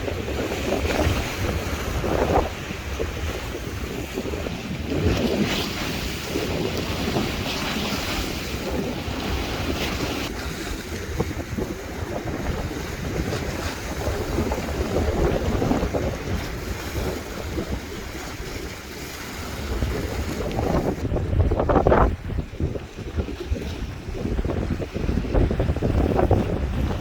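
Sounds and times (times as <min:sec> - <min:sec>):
sea waves washing in: 0:00.0 - 0:27.0
wind buffeting microphone: 0:00.0 - 0:27.0.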